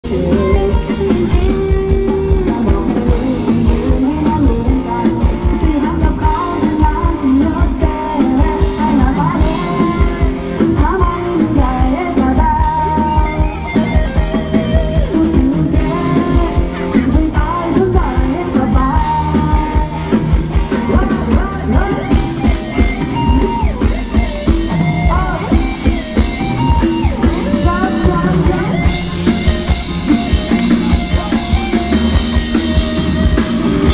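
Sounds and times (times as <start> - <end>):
band playing dance music: 0.0 - 33.9
person singing: 0.0 - 33.9
steady drum beat: 0.0 - 33.9.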